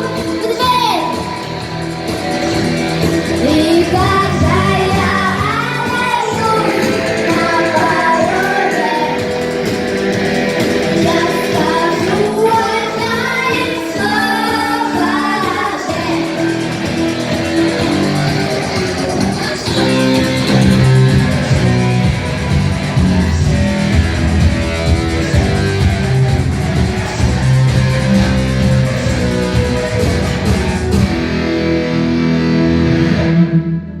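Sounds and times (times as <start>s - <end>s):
voices singing: 0.0s - 31.2s
bass guitar: 0.0s - 34.0s
guitar: 0.0s - 34.0s
rock band playing: 0.0s - 34.0s.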